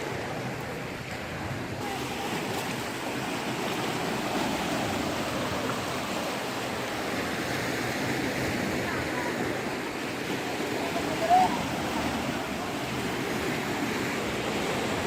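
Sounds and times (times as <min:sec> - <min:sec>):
flood water rushing: 0:00.0 - 0:15.0.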